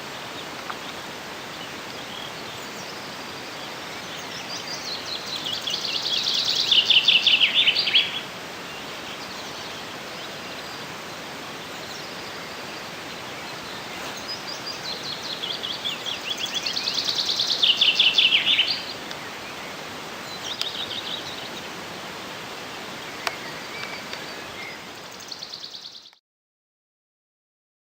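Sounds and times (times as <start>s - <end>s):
rural background hiss: 0.0s - 26.2s
songbird singing: 0.0s - 26.2s.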